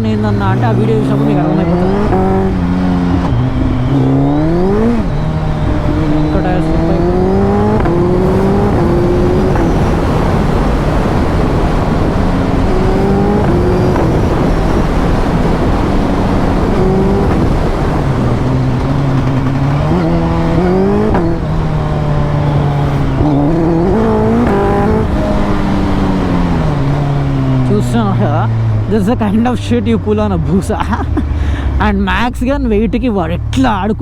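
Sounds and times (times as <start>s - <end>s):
wind rush: 0.0s - 29.1s
motorcycle engine pulling: 0.0s - 34.0s.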